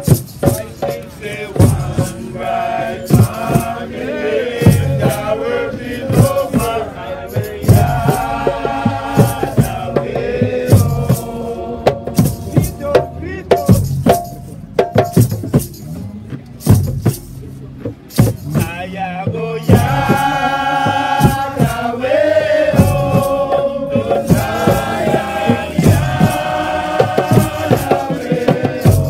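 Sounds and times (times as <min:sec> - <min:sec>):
voices chanting: 0:00.0 - 0:13.9, 0:18.7 - 0:29.0
hand drums and bass drum: 0:00.0 - 0:29.0.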